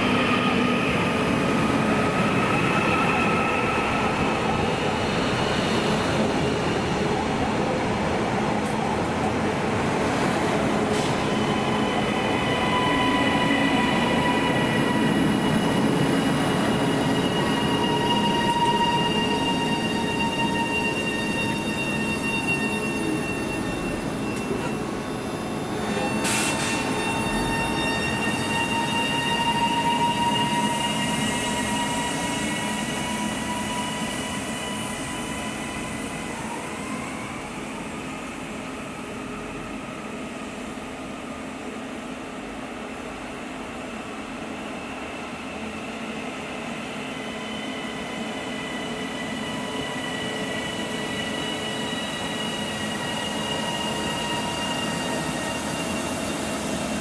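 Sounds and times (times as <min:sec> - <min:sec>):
train high whine: 0:00.0 - 0:57.0.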